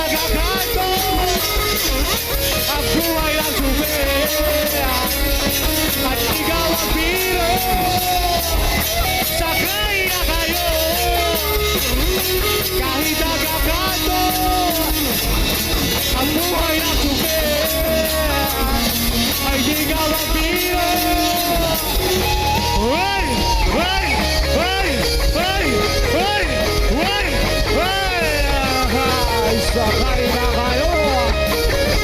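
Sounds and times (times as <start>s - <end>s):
bending lead guitar line: 0.0s - 32.0s
live rock band playing: 0.0s - 32.0s.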